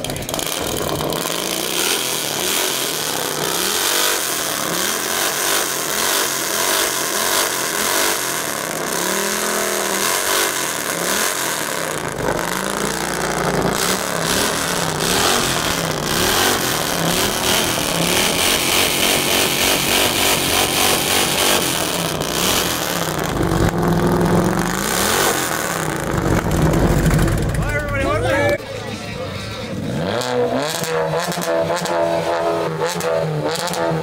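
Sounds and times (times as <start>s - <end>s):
engine revving with loud exhaust: 0.0s - 34.0s.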